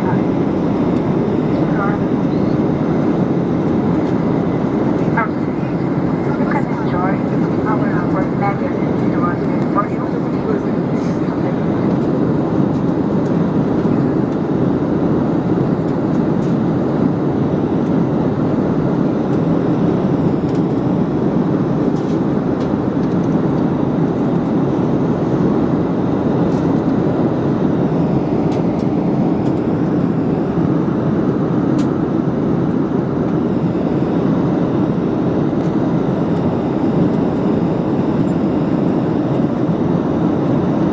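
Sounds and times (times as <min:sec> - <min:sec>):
jet airliner cabin noise: 0:00.0 - 0:40.9.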